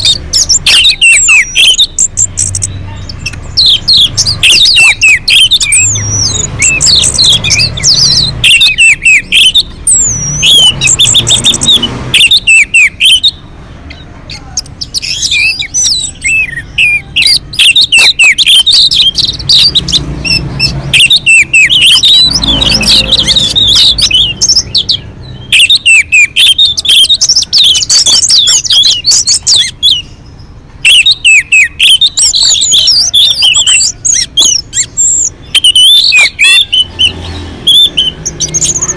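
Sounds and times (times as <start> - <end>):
thrush singing chirps and trills: 0.0 - 38.9.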